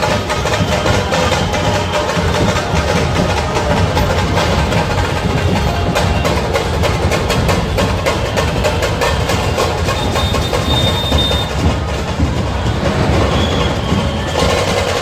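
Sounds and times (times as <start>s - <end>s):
loud fast drumming: 0.0s - 15.0s.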